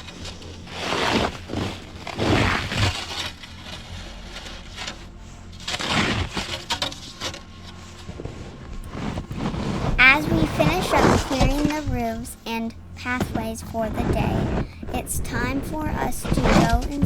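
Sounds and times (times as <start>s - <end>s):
low hum: 0.0s - 17.0s
snow shovel scraping snow: 0.0s - 17.0s.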